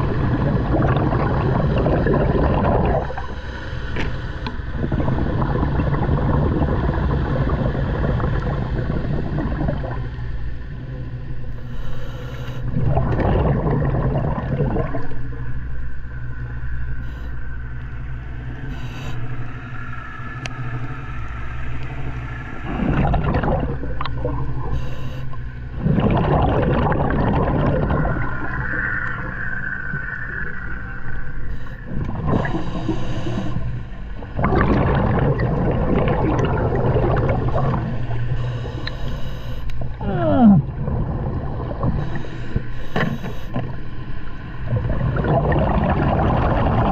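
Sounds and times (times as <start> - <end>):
exhaled bubbles gurgling underwater: 0.0 - 46.9
steady low hum: 0.0 - 46.9.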